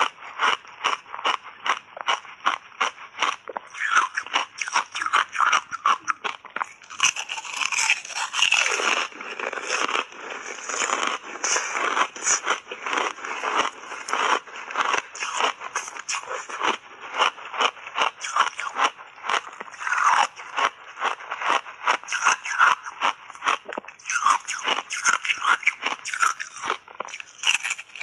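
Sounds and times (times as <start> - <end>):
ice chips being chewed: 0.0 - 28.0.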